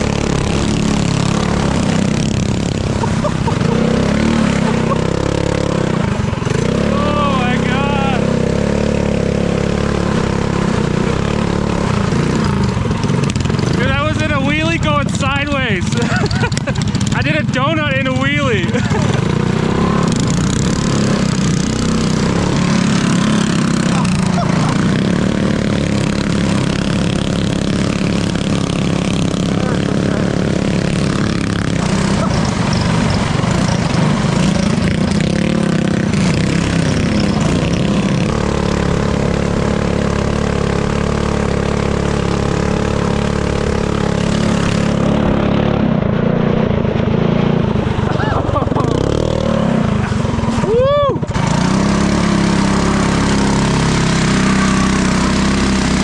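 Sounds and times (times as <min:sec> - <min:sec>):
small engines revving: 0:00.0 - 0:56.0.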